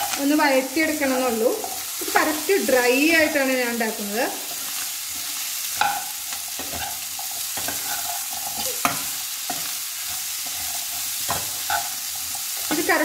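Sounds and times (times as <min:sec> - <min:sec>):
food sizzling in a pan: 0:00.0 - 0:13.0
spoon scraping a pan: 0:00.8 - 0:03.4, 0:04.3 - 0:13.0.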